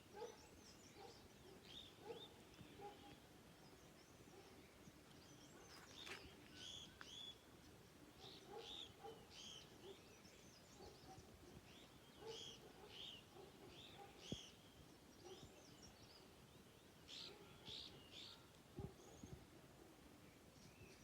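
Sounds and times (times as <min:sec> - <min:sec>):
faint bird chirping: 0:00.0 - 0:21.0
low outdoor background: 0:00.0 - 0:21.0.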